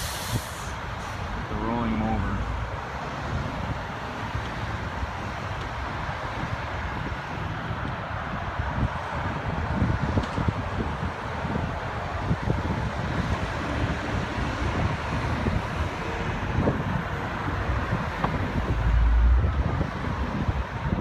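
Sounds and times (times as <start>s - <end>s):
highway traffic rumble: 0.0s - 21.0s
wind buffeting microphone: 0.0s - 21.0s.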